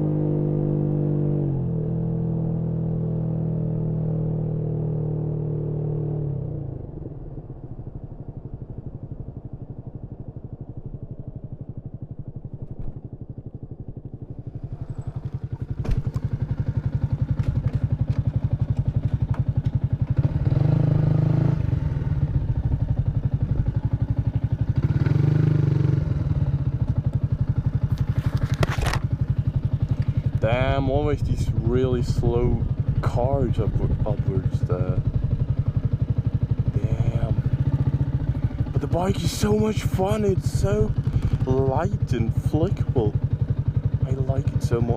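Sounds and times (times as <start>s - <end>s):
motorcycle engine at low revs: 0.0s - 44.9s.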